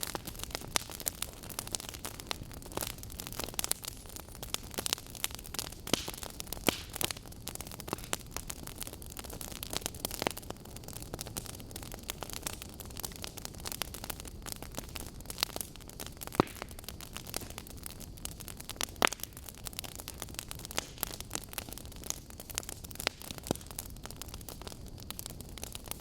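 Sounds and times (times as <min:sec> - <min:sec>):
burning logs crackling: 0:00.0 - 0:26.0.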